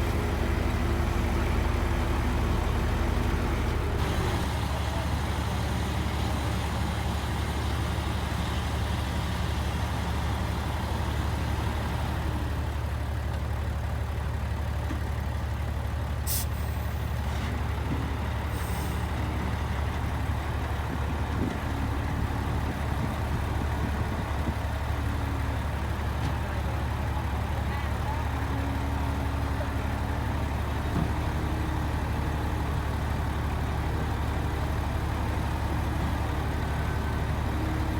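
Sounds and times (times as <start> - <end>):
heavy diesel engine droning: 0.0 - 37.9.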